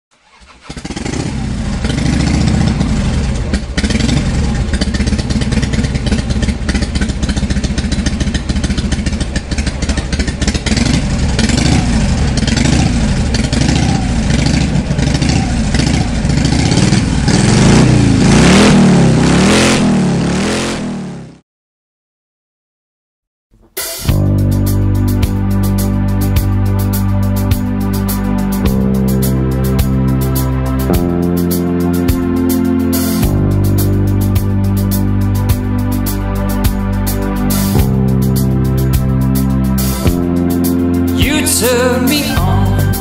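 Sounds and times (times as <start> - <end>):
motorcycle engine revving: 0.2 - 21.4, 24.1 - 43.0.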